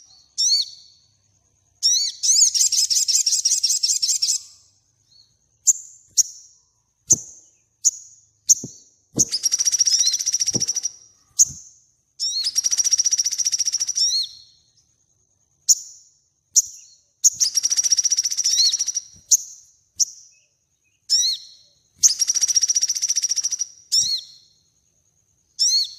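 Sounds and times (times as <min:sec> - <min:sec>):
songbird singing: 0:00.0 - 0:25.9.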